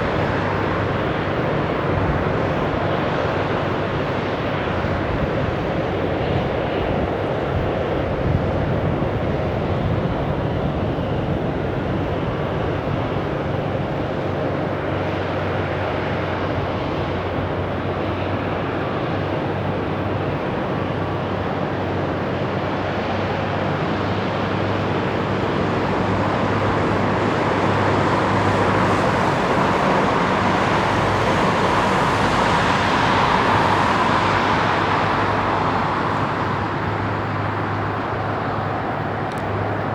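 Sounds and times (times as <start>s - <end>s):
jet engines running with whine: 0.0s - 39.9s.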